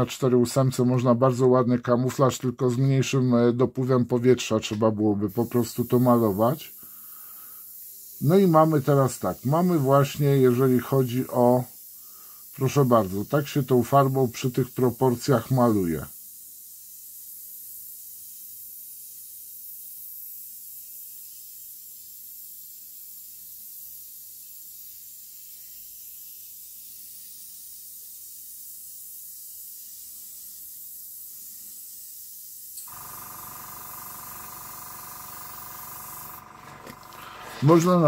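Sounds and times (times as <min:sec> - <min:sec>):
airbrush hissing: 0:04.8 - 0:38.0.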